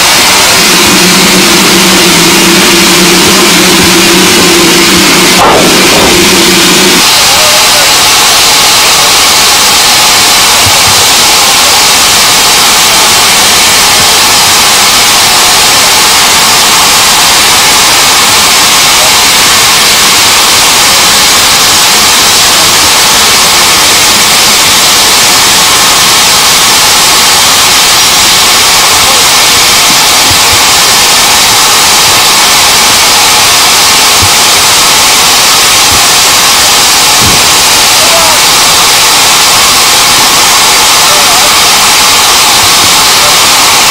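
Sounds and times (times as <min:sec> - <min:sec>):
steam hissing from locomotive: 0:00.0 - 0:43.9.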